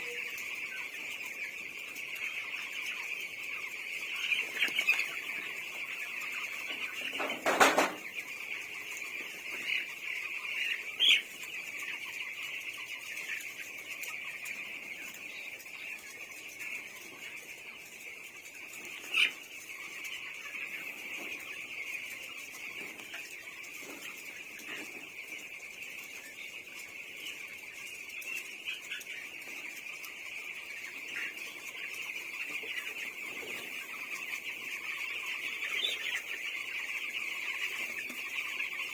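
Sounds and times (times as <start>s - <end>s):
chickens calling: 0.0s - 38.9s.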